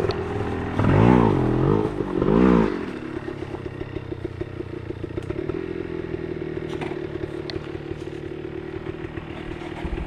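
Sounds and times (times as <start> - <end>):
motorcycle engine revving and idling: 0.0 - 10.0.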